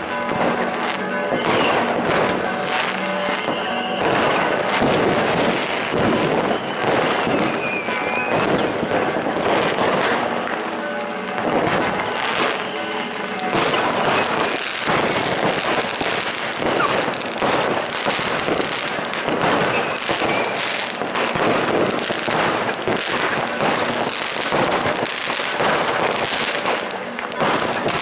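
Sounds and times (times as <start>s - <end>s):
dense crackle of firecrackers: 0.0s - 28.0s.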